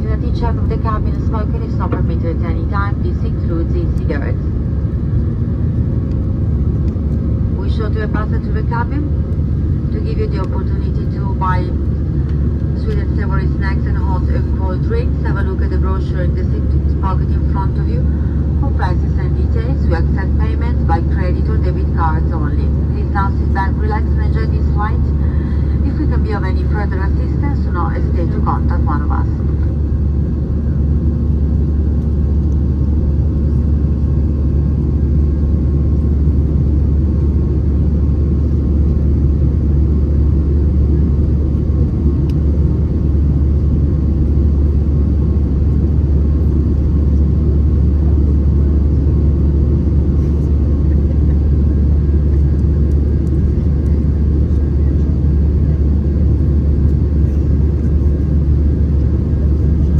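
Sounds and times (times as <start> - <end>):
airflow around fuselage: 0.0 - 54.9
airplane cabin engine rumble: 0.0 - 59.9.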